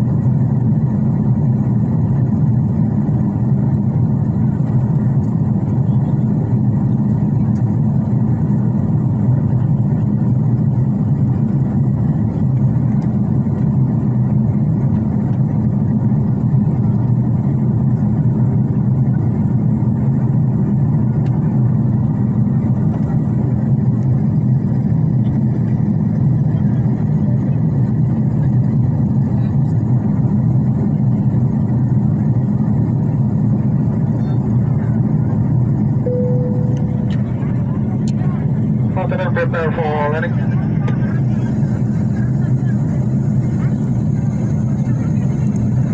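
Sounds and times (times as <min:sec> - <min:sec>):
airliner cabin engine hum: 0:00.0 - 0:45.9.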